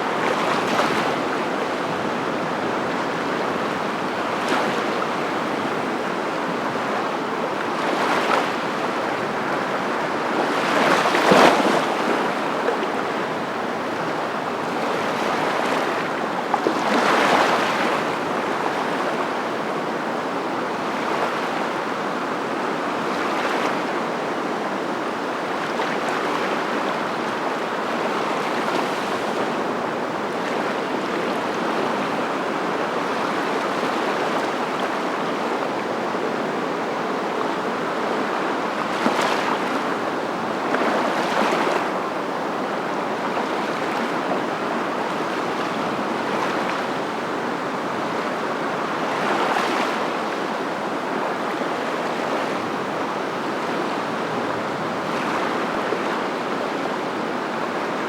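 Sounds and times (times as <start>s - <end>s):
rushing water or wind: 0.0s - 58.0s.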